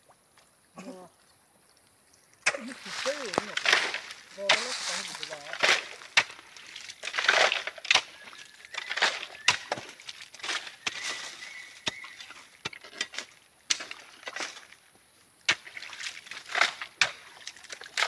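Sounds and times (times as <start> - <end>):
hands squelching in wet mud: 2.3 - 14.9, 15.5 - 18.0.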